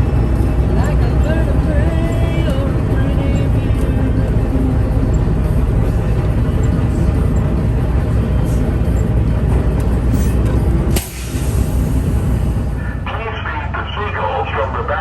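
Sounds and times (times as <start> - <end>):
vehicle rumbling on road: 0.0 - 15.0.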